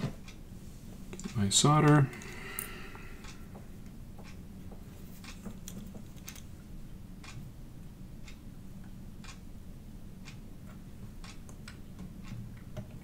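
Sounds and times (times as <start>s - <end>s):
low steady hum: 0.0s - 13.0s
faint regular ticking: 0.2s - 13.0s.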